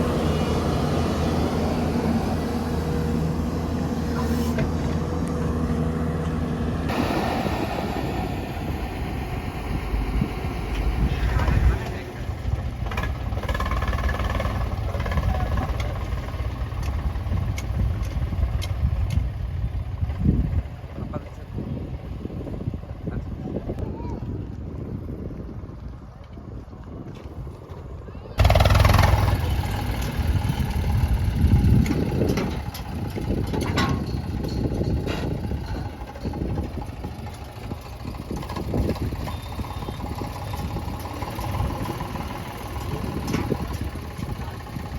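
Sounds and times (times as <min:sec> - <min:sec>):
heavy diesel engine running: 0:00.0 - 0:23.8, 0:27.8 - 0:44.9.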